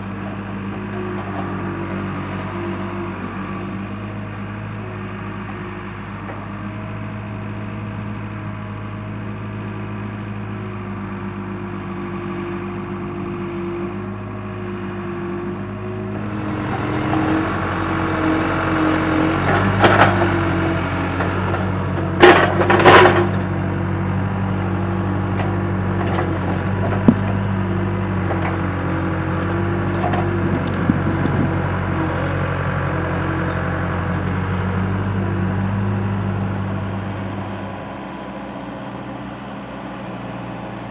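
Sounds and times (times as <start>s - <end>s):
skid steer engine running: 0.0s - 40.9s.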